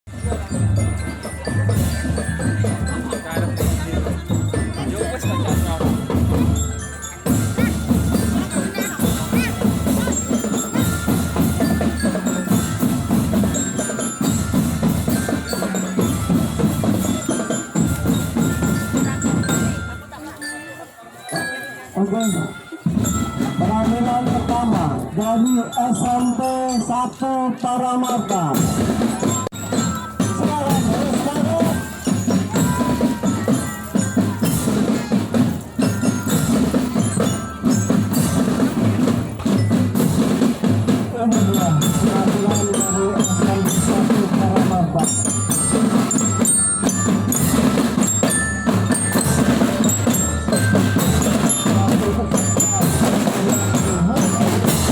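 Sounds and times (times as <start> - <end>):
marching drums: 0.1 - 20.5, 22.1 - 26.9, 28.2 - 54.9
glockenspiel melody: 0.1 - 54.9.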